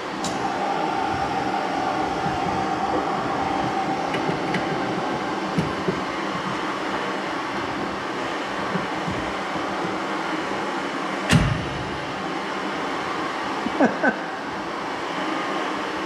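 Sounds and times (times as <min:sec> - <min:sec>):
faint high hum: 0:00.0 - 0:16.0
rushing machine noise: 0:00.0 - 0:16.0.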